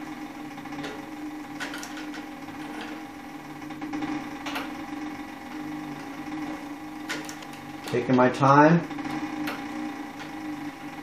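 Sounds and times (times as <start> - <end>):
sewing machine humming: 0.0 - 11.0
machine creaking: 0.6 - 11.0.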